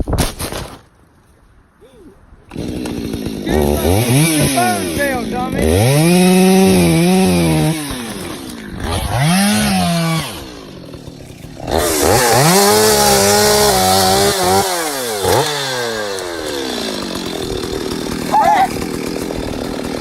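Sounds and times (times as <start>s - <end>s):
chainsaw cutting logs: 2.5s - 20.0s.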